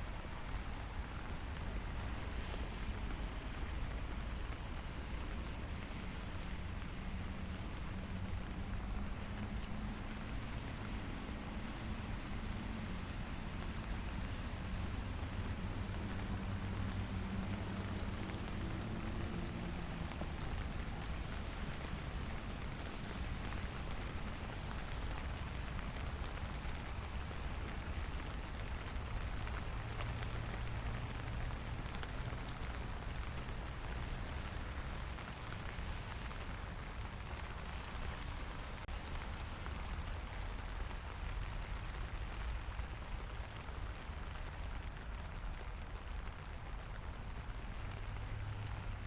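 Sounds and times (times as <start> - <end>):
light rain pattering on street: 0.0 - 49.0.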